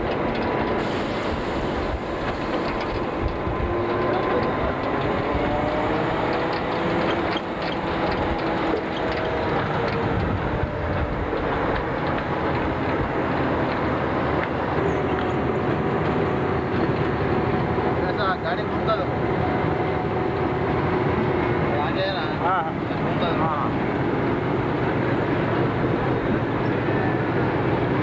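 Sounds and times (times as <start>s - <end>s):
train engine and wheel noise: 0.0s - 28.0s.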